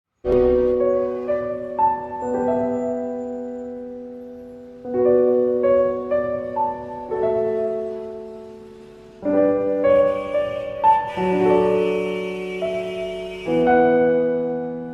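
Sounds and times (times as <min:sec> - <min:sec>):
slow solo piano: 0:00.3 - 0:14.9.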